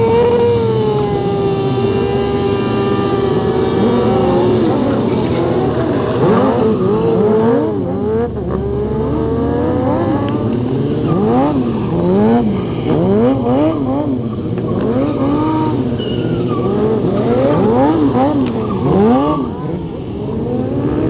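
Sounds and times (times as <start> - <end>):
motorcycle engines revving hard: 0.0 - 21.0.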